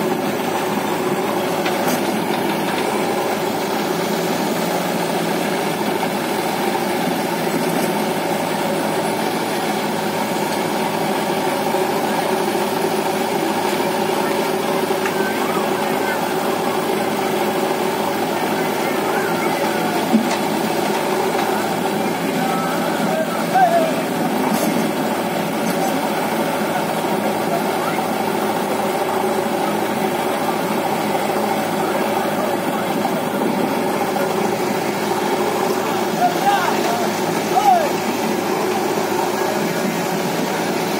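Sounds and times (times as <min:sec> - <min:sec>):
diesel engines idling: 0:00.0 - 0:40.9.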